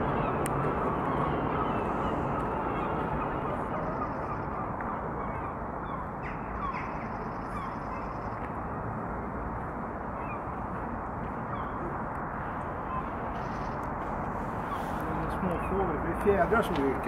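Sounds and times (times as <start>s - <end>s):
distant bird calls: 0.0s - 8.7s, 10.0s - 17.0s
low outdoor rumble: 0.0s - 17.0s.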